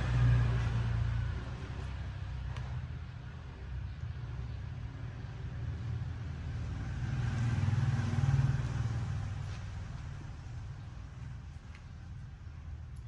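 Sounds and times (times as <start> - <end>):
vehicle passing by: 0.0 - 11.4.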